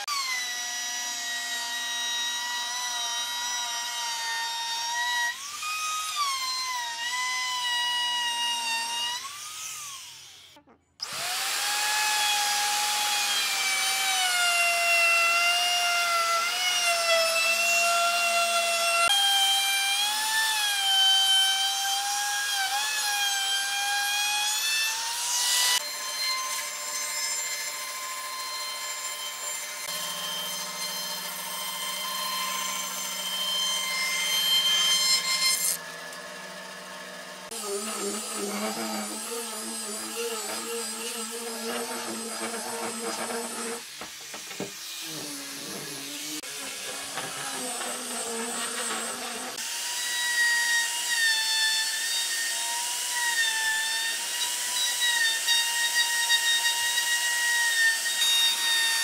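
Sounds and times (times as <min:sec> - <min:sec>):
angle grinder sanding a board: 0:00.0 - 0:59.0
band saw cutting wood: 0:00.0 - 0:59.0
wood router whining: 0:00.0 - 0:59.0.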